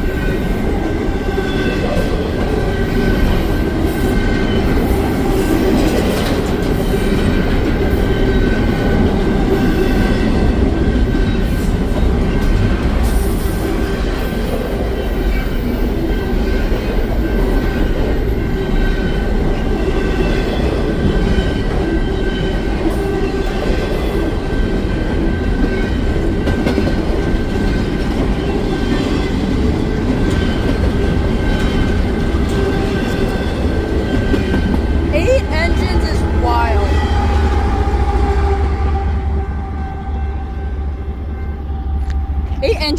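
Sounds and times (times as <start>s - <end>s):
freight train wheels clattering: 0.0s - 37.6s.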